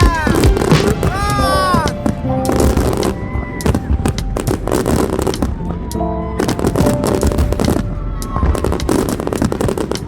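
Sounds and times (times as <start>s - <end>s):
fireworks bursting and crackling: 0.0s - 10.0s
music playing: 0.0s - 10.0s.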